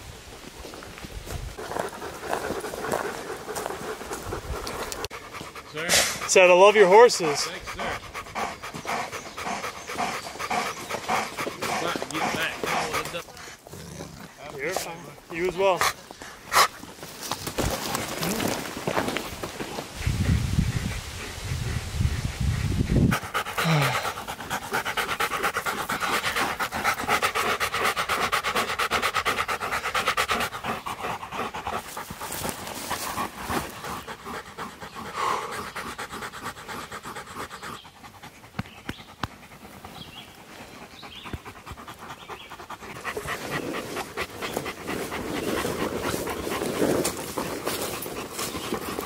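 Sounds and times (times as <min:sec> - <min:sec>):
dogs panting hard: 0:01.4 - 0:49.0.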